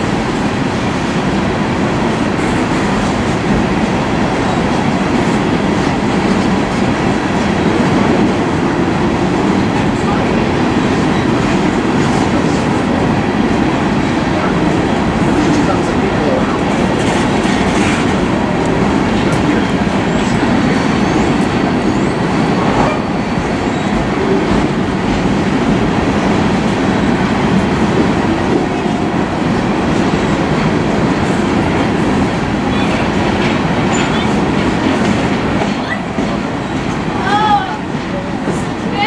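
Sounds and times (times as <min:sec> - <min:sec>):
freight train rumbling past: 0:00.0 - 0:39.0
wheels clattering on rails: 0:00.0 - 0:39.0.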